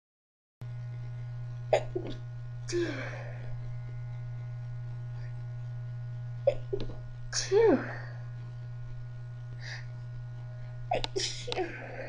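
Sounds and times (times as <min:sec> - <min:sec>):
steady low hum: 0:00.6 - 0:12.0.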